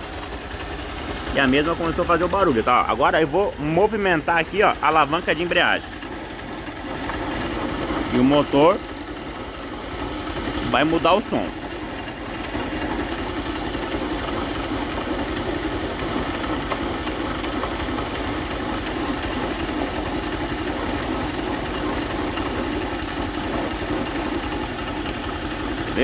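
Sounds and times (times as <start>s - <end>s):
mechanical engine noise: 0.0s - 26.0s
motorcycle engine idling: 0.0s - 26.0s.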